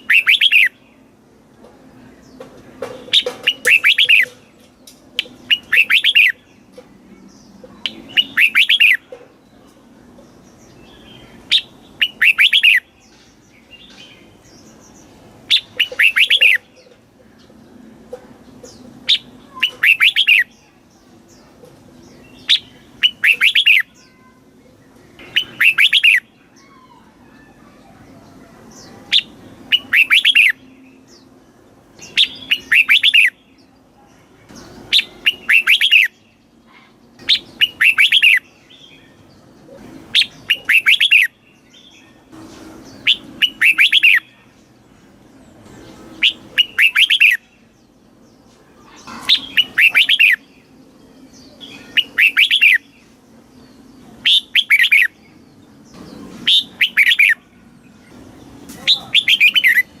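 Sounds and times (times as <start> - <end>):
bird singing bright notes: 0.0 - 1.2, 1.9 - 60.0.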